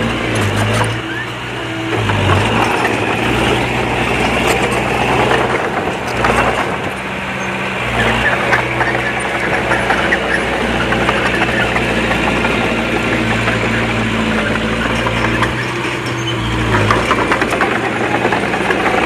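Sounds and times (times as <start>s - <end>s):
heavy machinery diesel engine: 0.0s - 19.0s
rough work noise: 0.0s - 19.0s.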